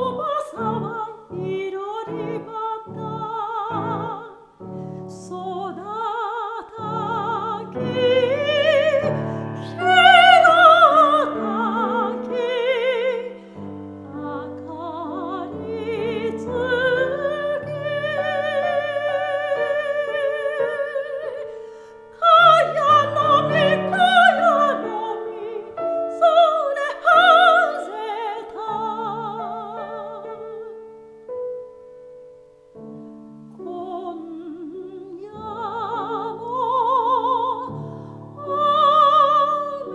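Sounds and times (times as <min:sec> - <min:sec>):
soprano singing with vibrato: 0:00.0 - 0:31.9, 0:32.8 - 0:39.9
piano accompaniment: 0:00.0 - 0:39.9.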